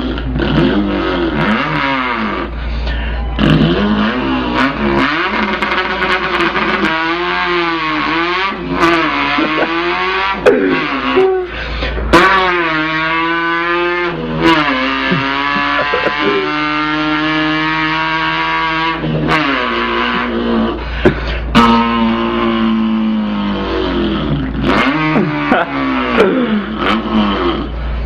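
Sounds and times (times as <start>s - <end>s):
boy imitating car engine: 0.0s - 28.0s.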